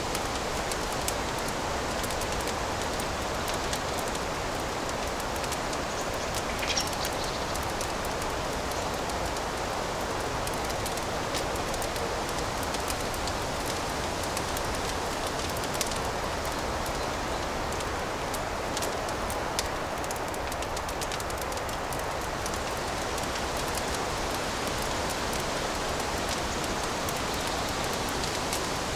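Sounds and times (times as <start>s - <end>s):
fireplace fire crackling: 0.0s - 28.9s.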